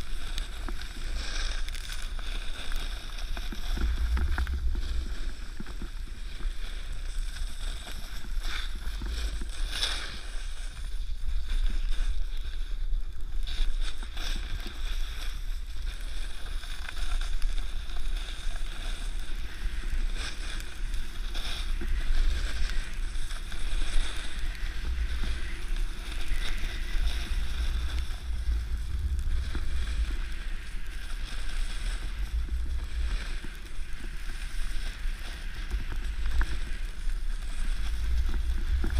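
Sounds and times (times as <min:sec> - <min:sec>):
snowboard scraping over snow: 0:00.0 - 0:38.9
wind rumble on microphone: 0:00.0 - 0:38.9.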